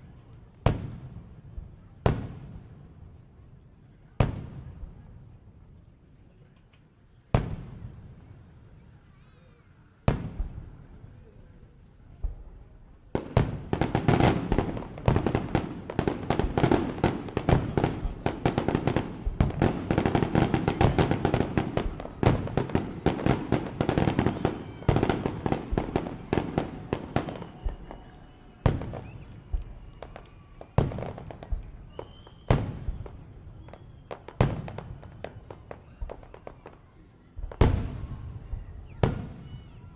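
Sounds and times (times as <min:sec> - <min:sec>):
fireworks bangs and crackles: 0:00.0 - 0:09.2, 0:09.9 - 0:39.9.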